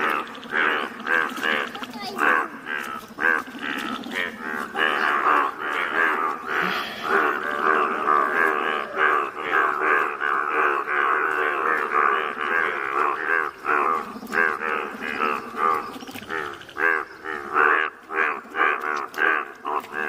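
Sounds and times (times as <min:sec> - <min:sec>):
frogs croaking: 0:00.0 - 0:20.0.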